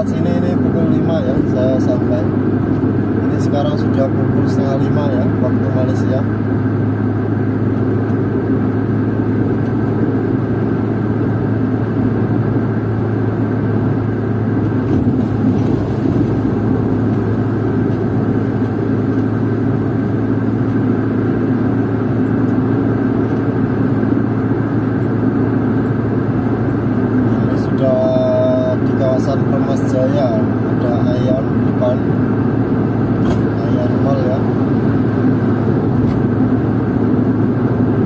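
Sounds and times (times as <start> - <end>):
car interior engine and road noise: 0.0 - 38.0.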